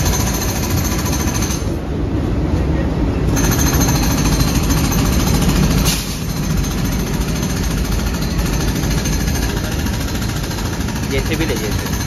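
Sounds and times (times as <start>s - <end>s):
diesel locomotive engine running: 0.0s - 12.0s.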